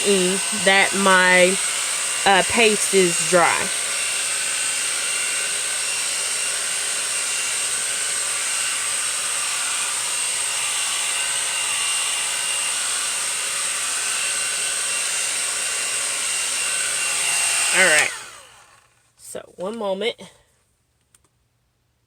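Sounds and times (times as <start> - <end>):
hair dryer whirring: 0.0 - 19.0.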